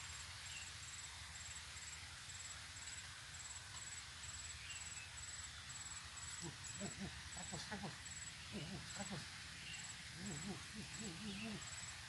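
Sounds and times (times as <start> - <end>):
faint outdoor hiss: 0.0 - 12.0
insect chirping trills: 0.0 - 12.0.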